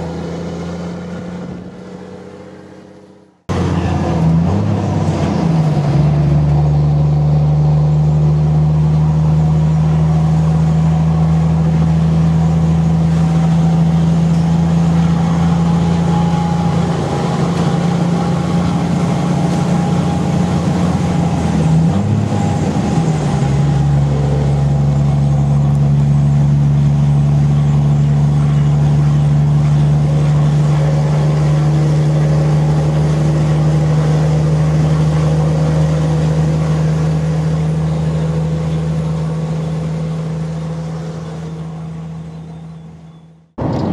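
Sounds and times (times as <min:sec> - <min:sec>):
diesel truck engine droning: 0:00.0 - 0:43.9.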